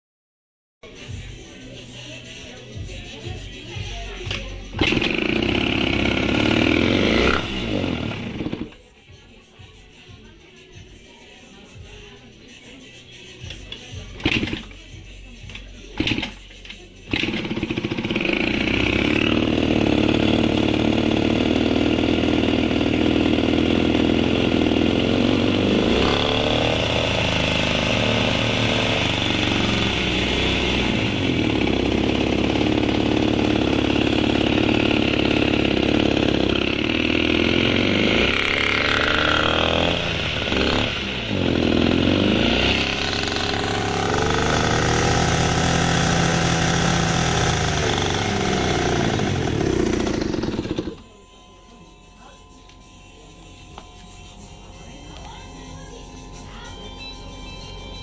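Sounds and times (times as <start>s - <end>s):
two-stroke scooter engine racing: 2.0s - 8.9s, 13.4s - 58.0s.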